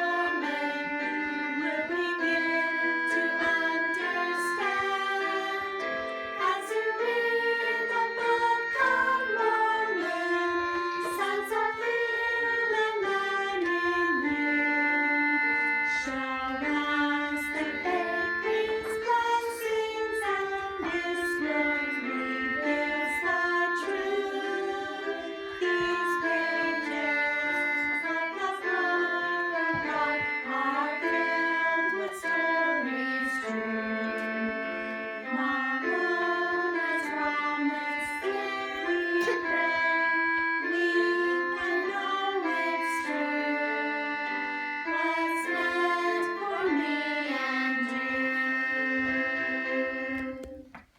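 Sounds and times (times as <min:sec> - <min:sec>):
children's song melody: 0:00.0 - 0:50.9.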